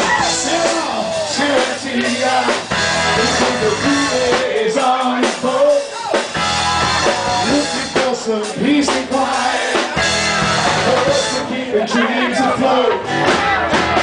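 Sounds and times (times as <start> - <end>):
drum kit beat: 0.0 - 11.7, 12.4 - 14.0
person singing: 0.0 - 13.9
live rock band playing: 0.0 - 14.0.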